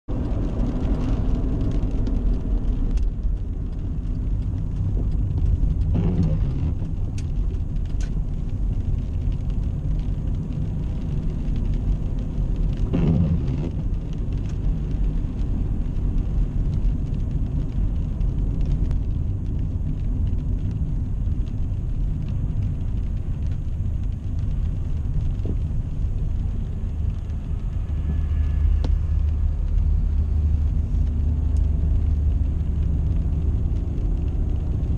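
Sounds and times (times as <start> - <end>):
car road noise: 0.0 - 34.9.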